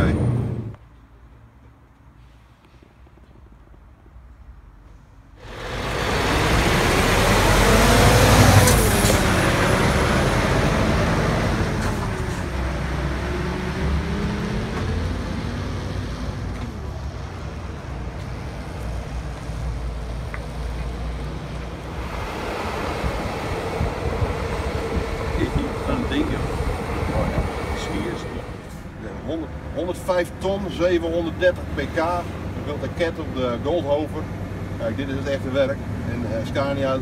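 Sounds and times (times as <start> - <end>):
heavy truck passing close by: 5.4 - 37.0.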